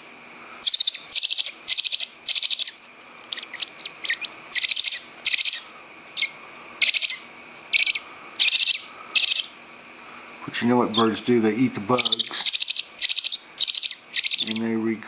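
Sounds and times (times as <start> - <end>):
thin bird peeps: 0.0 - 9.6, 10.9 - 11.2, 11.9 - 14.7
baby bird begging chirps: 0.0 - 9.7, 10.8 - 11.2, 11.9 - 14.7.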